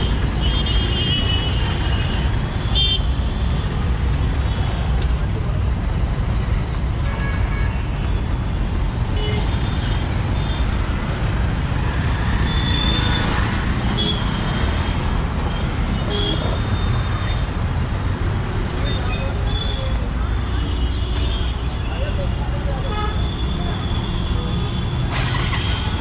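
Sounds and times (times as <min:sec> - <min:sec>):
traffic engines rumbling: 0:00.0 - 0:26.0.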